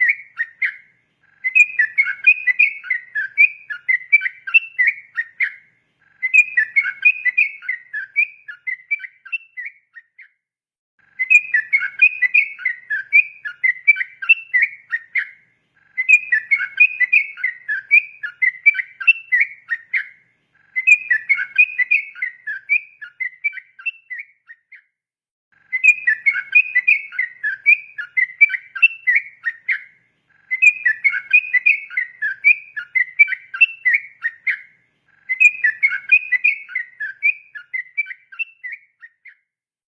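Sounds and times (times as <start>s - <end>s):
bird singing whistled notes: 0.0s - 10.4s, 11.1s - 24.9s, 25.6s - 39.5s.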